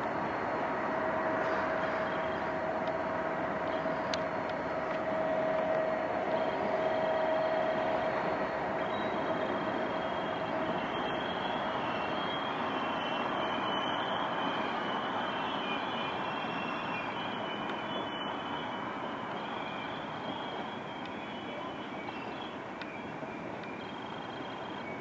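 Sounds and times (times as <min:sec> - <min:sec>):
freight train rumbling and rattling: 0:00.0 - 0:25.0
faint high-pitched squeals: 0:00.6 - 0:25.0.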